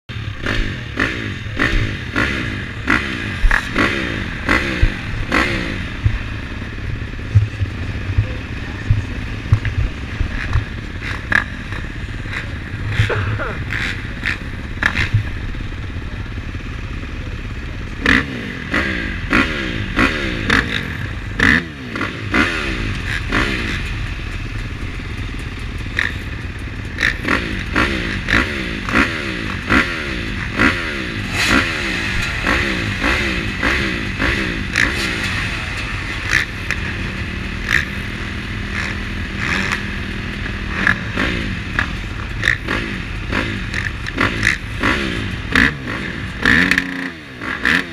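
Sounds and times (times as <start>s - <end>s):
motocross bike engines revving: 0.1s - 47.9s.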